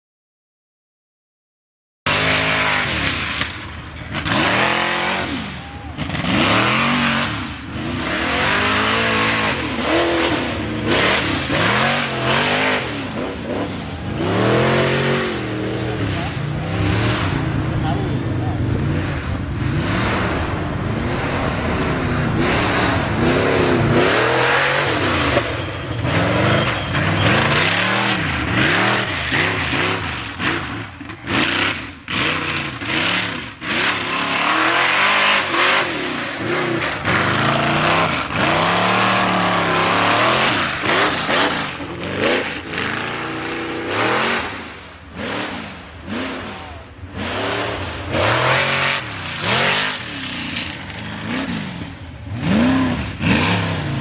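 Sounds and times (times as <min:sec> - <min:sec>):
race vehicle engine revving: 0:02.1 - 0:54.0.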